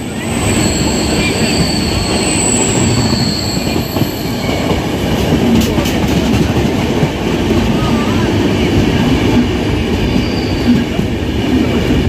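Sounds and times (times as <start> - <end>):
rail clicks: 0.0 - 12.0
train wheels rushing on rails: 0.0 - 12.0.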